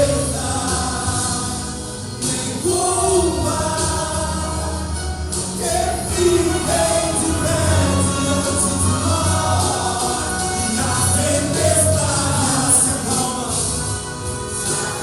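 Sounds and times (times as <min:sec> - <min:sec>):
band with steady bass: 0:00.0 - 0:15.0
men's choir singing a hymn: 0:00.0 - 0:15.0.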